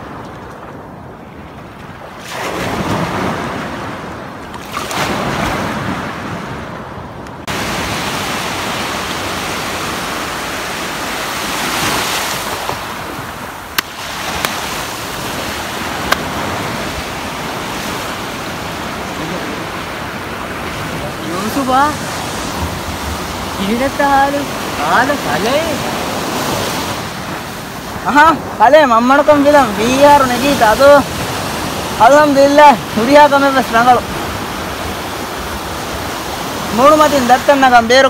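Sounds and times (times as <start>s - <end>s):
wind on microphone: 0.0s - 37.0s
surf washing on beach: 0.0s - 38.0s.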